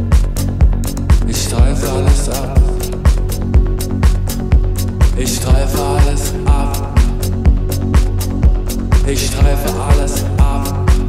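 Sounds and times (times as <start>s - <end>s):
hi-hats: 0.0s - 11.0s
kick drum beat: 0.0s - 11.0s.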